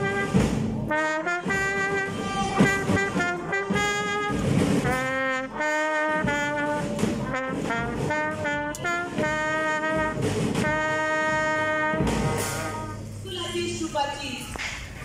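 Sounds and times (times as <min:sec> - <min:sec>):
brass band playing: 0:00.0 - 0:13.9
drum beats: 0:00.0 - 0:15.0.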